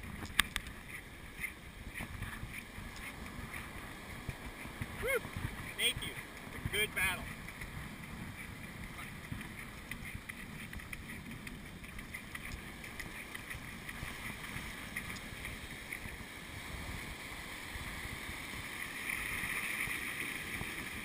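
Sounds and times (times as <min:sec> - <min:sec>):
surf washing onto beach: 0:00.0 - 0:21.0
wind on microphone: 0:00.0 - 0:21.0.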